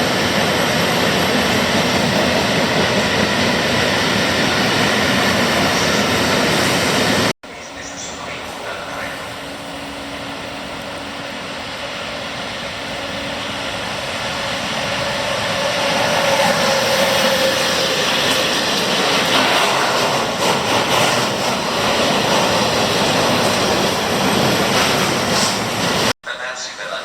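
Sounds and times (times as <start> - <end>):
train running: 0.0 - 27.0.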